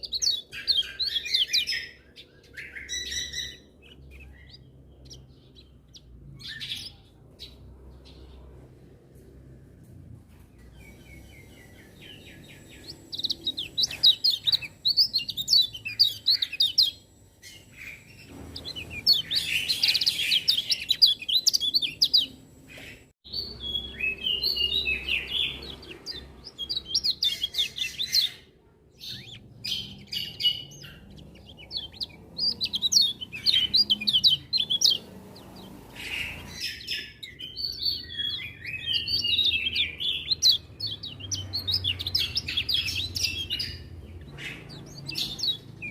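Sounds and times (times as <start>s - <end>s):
bird twittering chirps: 0.0s - 8.5s, 10.6s - 45.9s.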